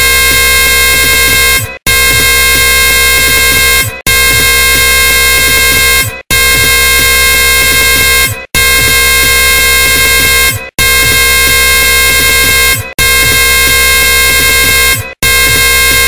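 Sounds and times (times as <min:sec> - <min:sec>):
harsh electronic buzzing noise: 0:00.0 - 0:16.0.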